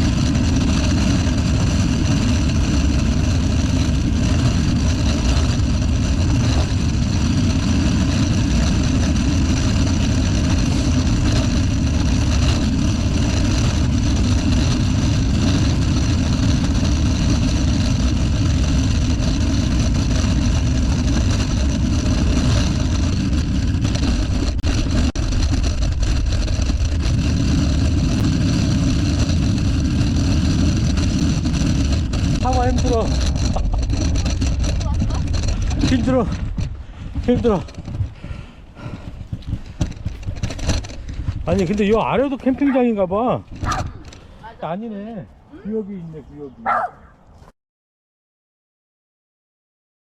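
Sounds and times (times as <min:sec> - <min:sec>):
road noise: 0:00.0 - 0:47.5
vehicle engine: 0:00.0 - 0:47.5.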